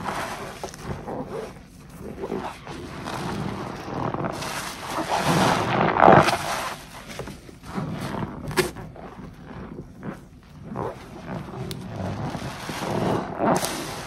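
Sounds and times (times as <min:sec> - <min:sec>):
sponge squelching in soap suds: 0:00.0 - 0:14.0.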